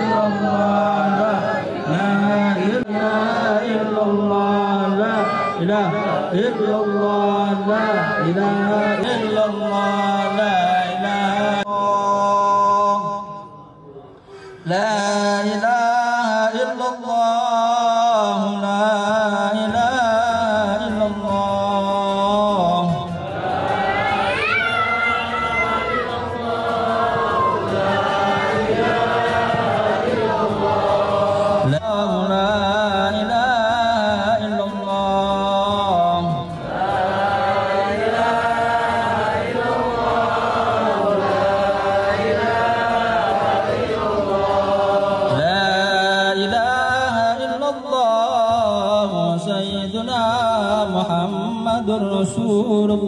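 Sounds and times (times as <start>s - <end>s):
men chanting prayers in unison: 0.0s - 53.0s.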